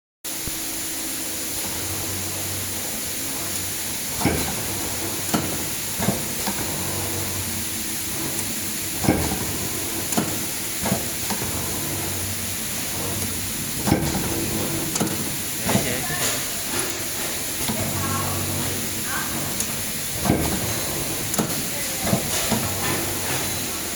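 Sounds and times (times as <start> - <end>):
wire-bending machine humming: 0.3 - 23.9.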